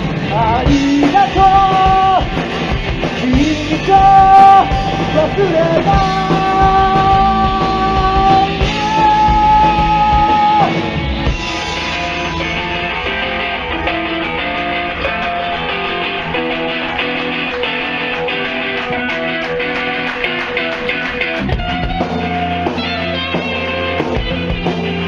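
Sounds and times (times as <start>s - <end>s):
drum kit: 0.0s - 25.0s
electric guitar: 0.0s - 25.0s.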